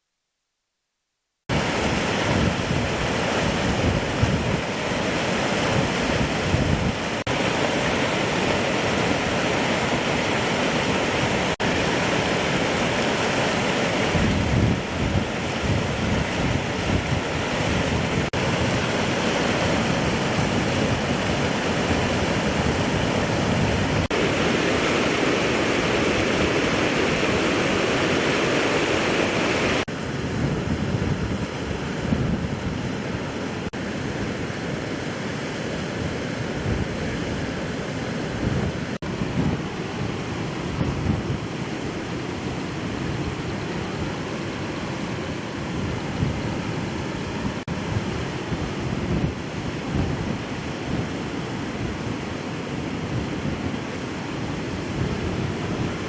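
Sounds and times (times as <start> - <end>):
river water rushing: 1.5 - 56.0
wind buffeting microphone: 1.5 - 56.0.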